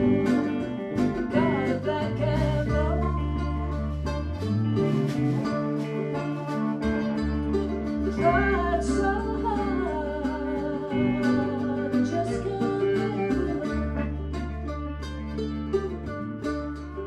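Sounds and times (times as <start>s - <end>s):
blues band playing: 0.0s - 17.0s.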